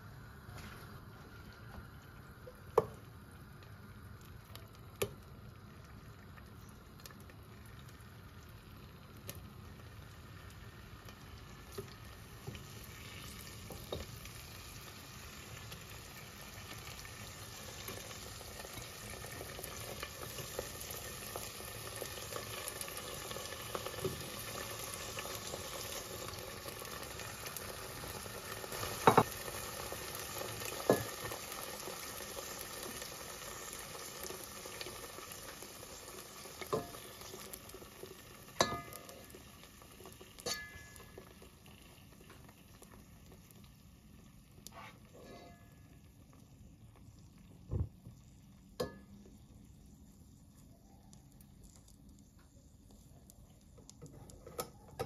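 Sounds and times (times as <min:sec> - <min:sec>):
potato slices frying in oil: 0:00.0 - 0:55.0.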